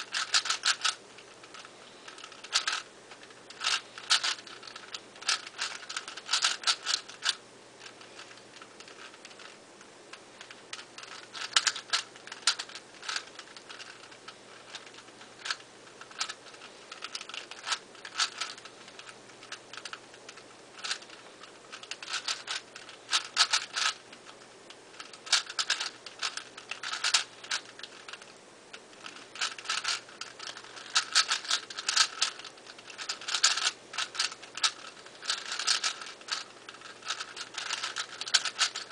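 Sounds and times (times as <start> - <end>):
puzzle cube clicking turns: 0.0 - 9.6, 10.4 - 38.9.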